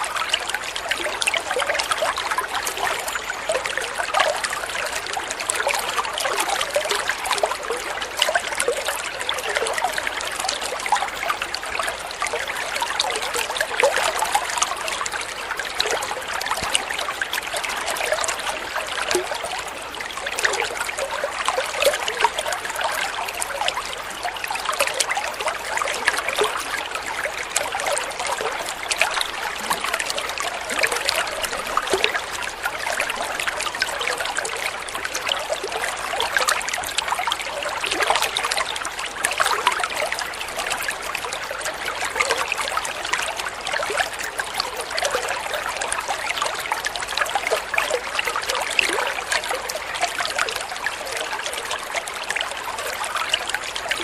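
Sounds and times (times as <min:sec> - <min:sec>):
water flowing and trickling: 0:00.0 - 0:54.0.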